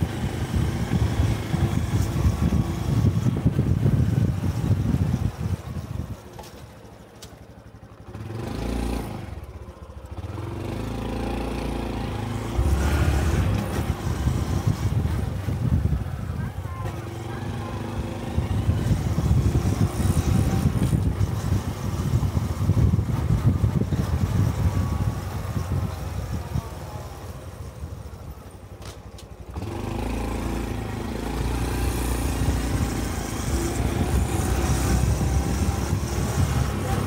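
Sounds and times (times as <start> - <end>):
motorcycle engine while riding: 0.0 - 37.0.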